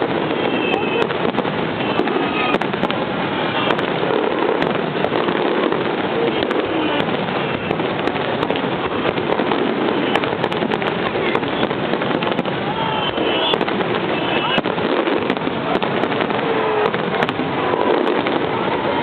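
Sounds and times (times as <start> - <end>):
fireworks booms and cracks: 0.0 - 19.0.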